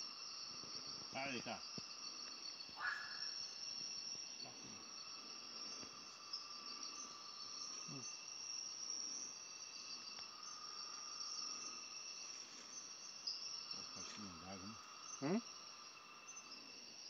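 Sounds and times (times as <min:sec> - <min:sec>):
crickets and insects trilling: 0:00.0 - 0:17.0.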